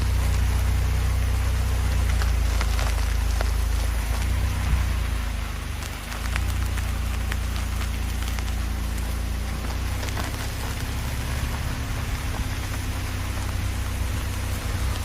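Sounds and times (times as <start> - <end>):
car engine rumbling: 0.0 - 15.0
tyres crackling on loose dirt: 0.0 - 15.0.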